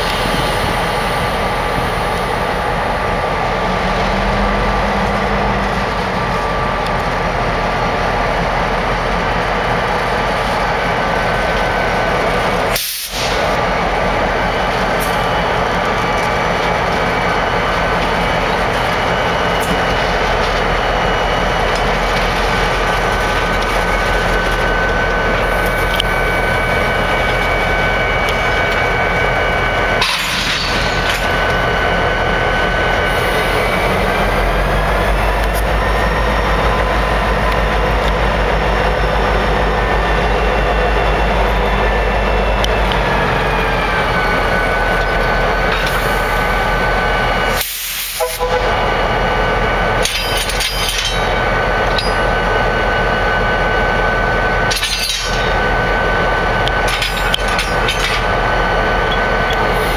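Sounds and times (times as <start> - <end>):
diesel locomotive engines idling: 0.0 - 59.9.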